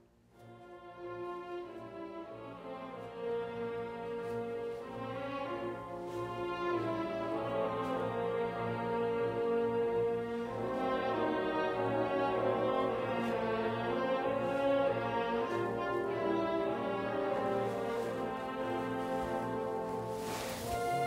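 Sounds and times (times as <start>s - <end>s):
orchestral music: 0.3s - 21.0s.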